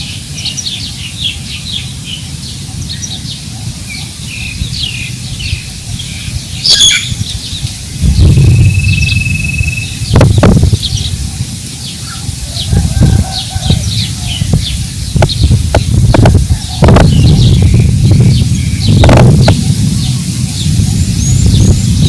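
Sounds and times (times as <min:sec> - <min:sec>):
small birds chirping: 0:00.0 - 0:22.0
wind buffeting microphone: 0:00.0 - 0:22.0.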